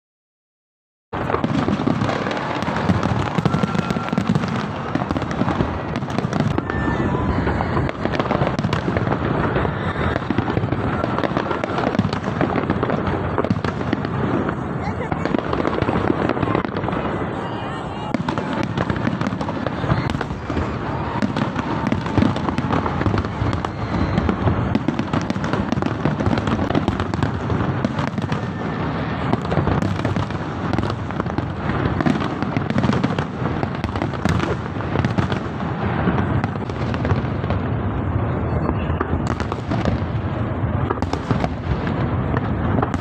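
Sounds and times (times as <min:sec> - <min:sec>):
fireworks bangs: 0:01.1 - 0:43.0
fireworks rumble: 0:01.1 - 0:43.0.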